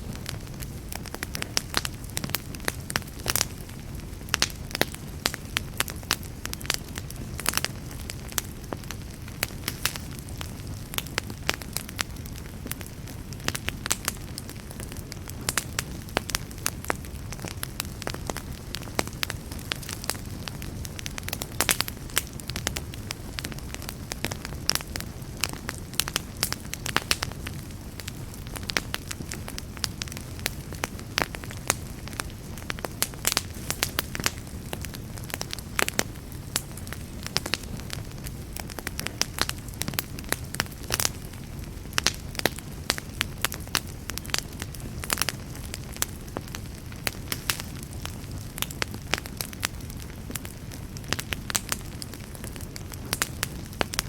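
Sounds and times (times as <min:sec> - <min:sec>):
fire crackles and pops: 0:00.0 - 0:54.0
low rumble of flame: 0:00.0 - 0:54.0.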